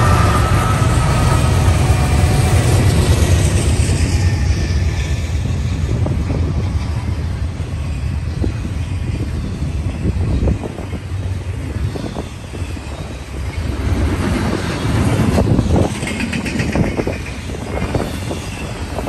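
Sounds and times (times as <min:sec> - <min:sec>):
diesel locomotives passing: 0:00.0 - 0:19.0
freight cars rumbling on rails: 0:00.0 - 0:19.0.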